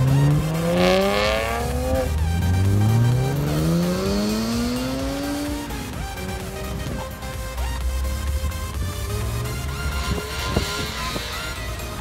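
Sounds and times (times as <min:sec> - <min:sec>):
car engine revving: 0:00.0 - 0:12.0
electronic background music: 0:00.0 - 0:12.0.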